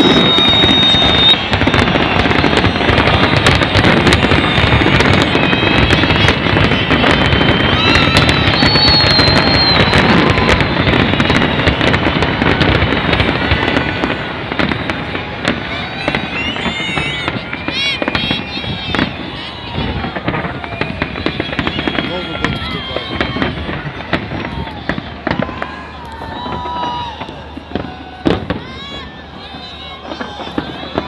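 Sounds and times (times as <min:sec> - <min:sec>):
fireworks cracks and bangs: 0:00.0 - 0:31.0.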